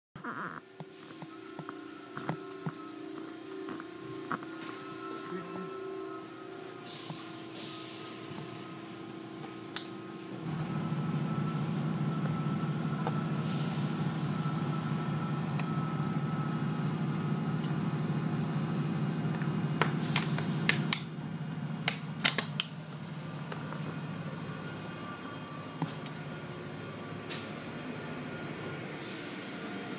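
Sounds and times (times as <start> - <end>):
car wash machinery motor hum: 0.7 - 29.9.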